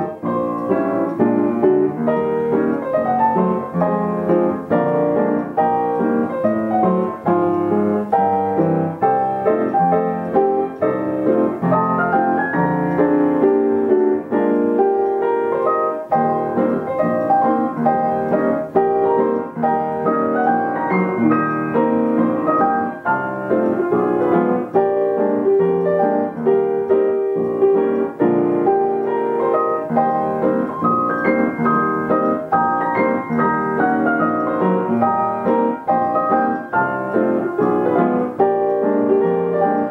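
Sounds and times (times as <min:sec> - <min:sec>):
upright piano playing a tune: 0:00.0 - 0:39.9.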